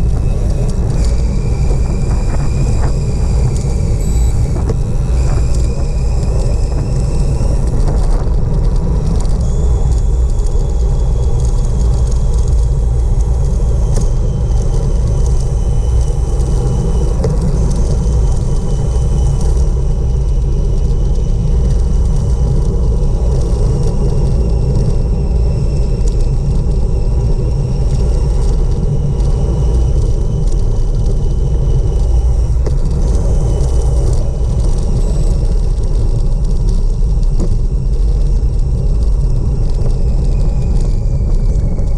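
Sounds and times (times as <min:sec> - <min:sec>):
faint high whine: 0:00.0 - 0:41.9
tyre noise on asphalt: 0:00.0 - 0:41.9
wind buffeting microphone: 0:00.0 - 0:41.9.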